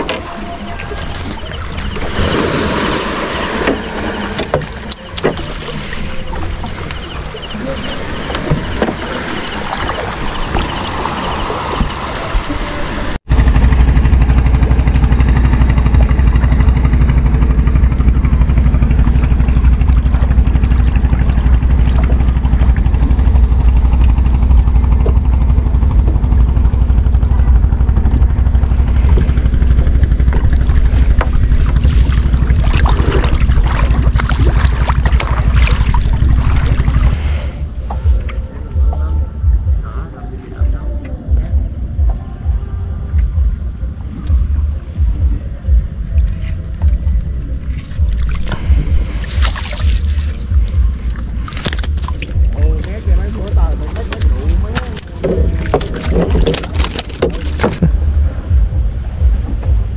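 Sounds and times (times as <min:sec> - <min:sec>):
water and handling noise: 0:00.0 - 0:13.2, 0:15.5 - 0:39.1, 0:46.1 - 0:57.9
boat engine running steadily: 0:00.0 - 0:59.9.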